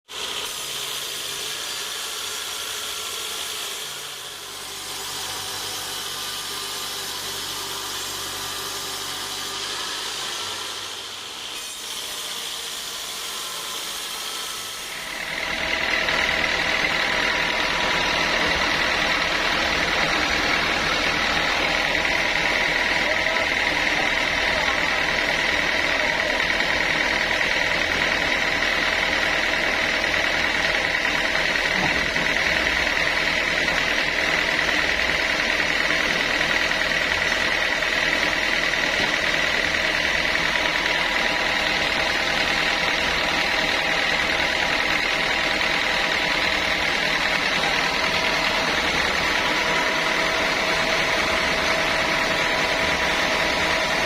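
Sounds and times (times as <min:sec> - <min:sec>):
saw high whine: 0:00.1 - 0:54.0
sawmill machinery running: 0:00.1 - 0:54.0.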